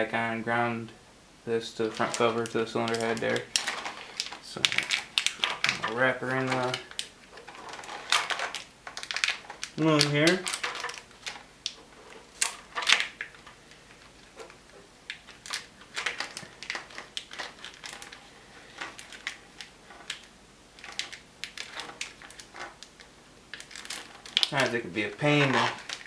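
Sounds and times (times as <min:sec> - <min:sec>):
plastic wire loom crinkling: 0:01.5 - 0:26.0.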